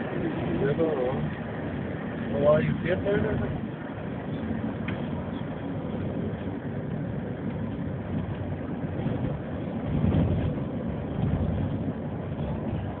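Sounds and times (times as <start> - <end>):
tyre and engine rumble inside car: 0.0 - 13.0.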